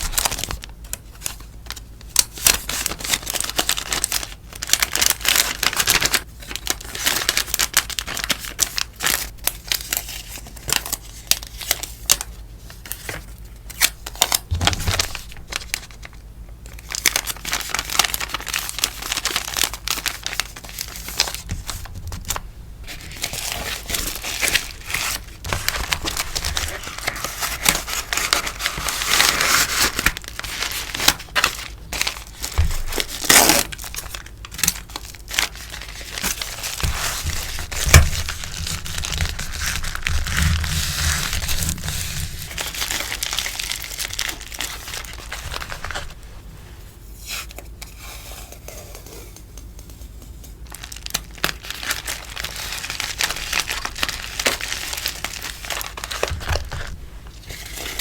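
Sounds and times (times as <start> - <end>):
packaging rustling and crinkling: 0.0 - 58.0.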